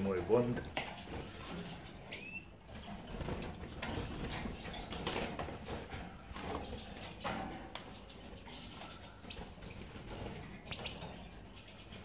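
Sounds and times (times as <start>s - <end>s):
bird chirp: 0.0s - 12.0s
birds clicking on wire cages: 0.0s - 12.0s.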